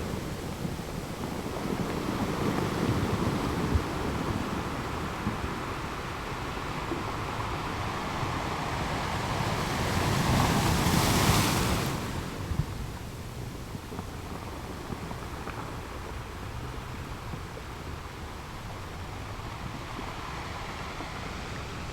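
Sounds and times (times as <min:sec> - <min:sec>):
ocean waves breaking: 0:00.0 - 0:21.9.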